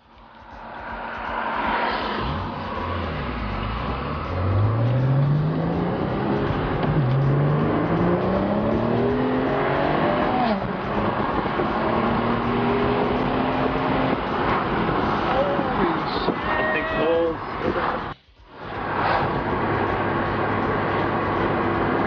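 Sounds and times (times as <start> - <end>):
car engine accelerating: 0.1 - 16.4, 17.0 - 22.0.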